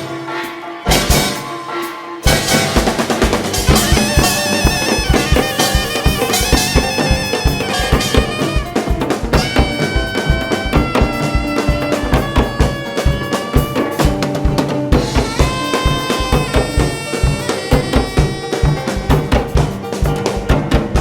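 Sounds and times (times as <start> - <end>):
high wind instrument melody: 0.0 - 21.0
rhythmic drumming: 0.0 - 21.0.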